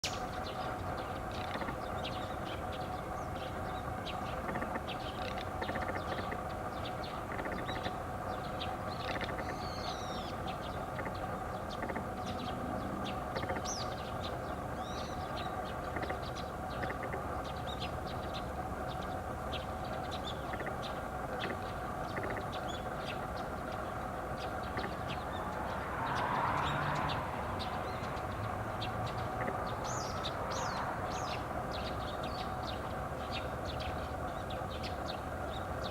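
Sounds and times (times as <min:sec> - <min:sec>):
birds chirping: 0:00.0 - 0:35.9
steady background hum: 0:00.0 - 0:35.9.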